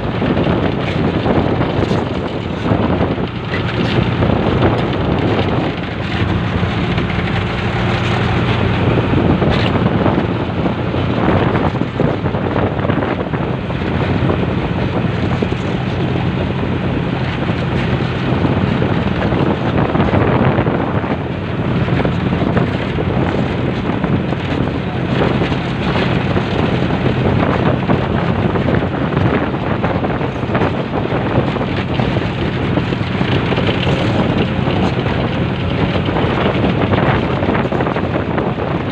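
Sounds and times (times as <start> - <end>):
boat engine running: 0.0 - 38.9
wind buffeting microphone: 0.0 - 38.9.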